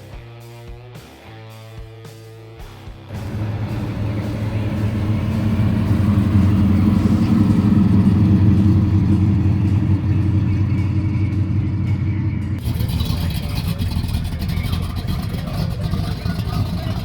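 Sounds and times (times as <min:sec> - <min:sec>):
car engine running: 0:03.1 - 0:17.0.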